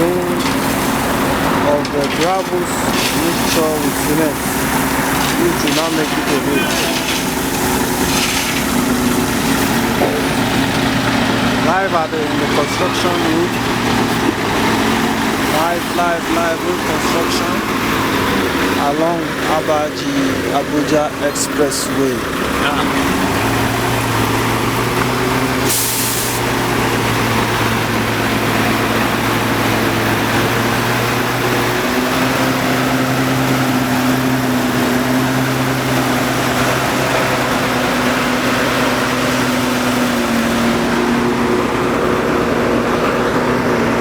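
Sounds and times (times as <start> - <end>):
construction vehicle engines running: 0.0 - 44.0.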